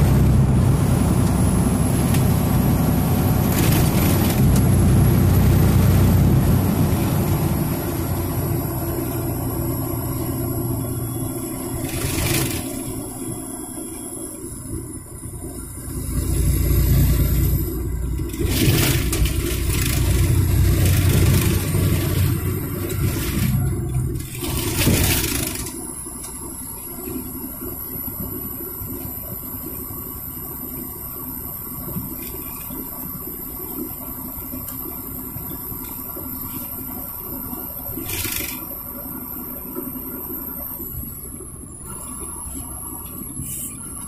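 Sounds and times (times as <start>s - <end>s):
vehicle road and engine rumble: 0.0s - 44.0s.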